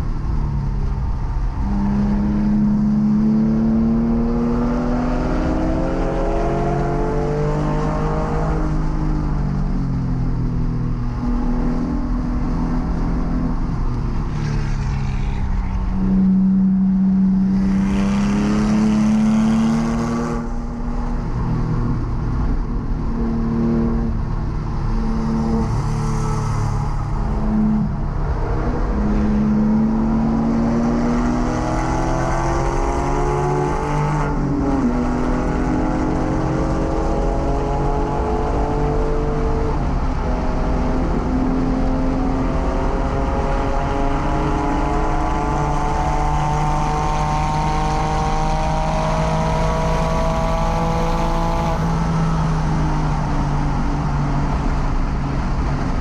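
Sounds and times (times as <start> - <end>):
car engine revving: 10.9 - 56.0.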